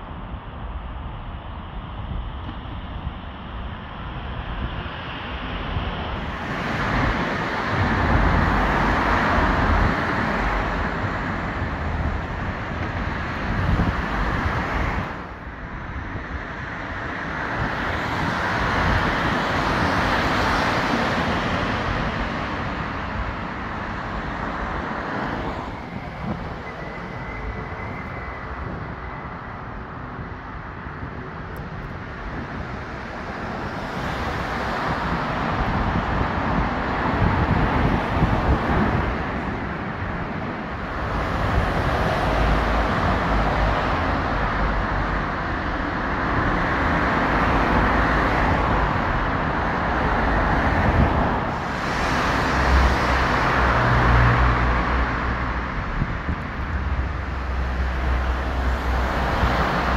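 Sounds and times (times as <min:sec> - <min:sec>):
cars passing on a road: 0:00.0 - 0:59.9.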